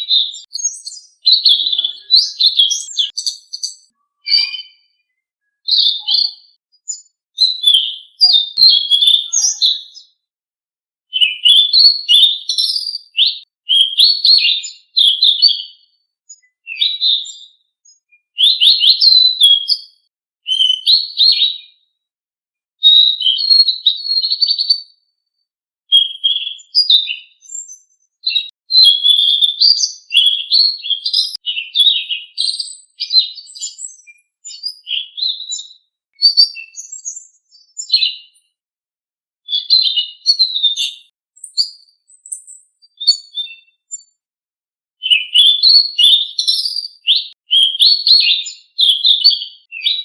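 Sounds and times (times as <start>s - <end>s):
songbird chirping and trilling: 0.0s - 10.3s, 11.1s - 21.9s, 22.8s - 25.1s, 25.9s - 38.5s, 39.5s - 44.2s, 45.0s - 50.0s.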